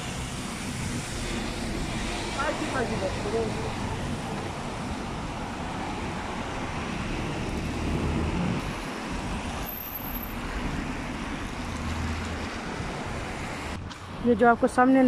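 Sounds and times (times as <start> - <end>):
tyres hissing on wet road: 0.0 - 14.3
vehicle engines rumbling: 0.0 - 15.0.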